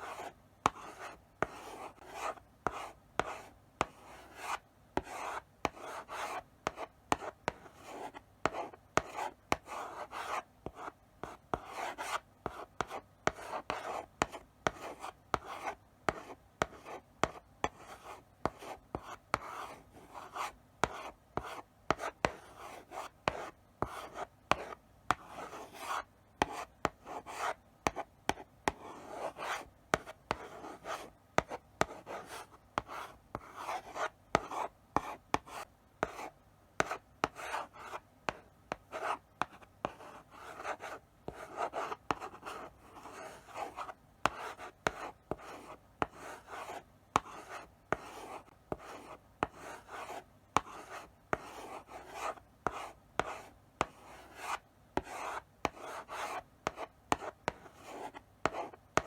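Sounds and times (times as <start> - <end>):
chalk scratching on blackboard: 0.0 - 59.0
chalk tapping on board: 0.2 - 17.8, 20.3 - 59.0.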